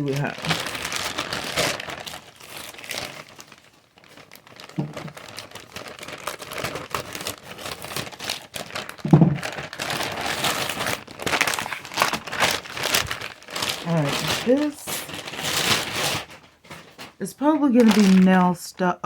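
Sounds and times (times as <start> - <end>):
packaging crinkling and rustling: 0.0 - 18.4.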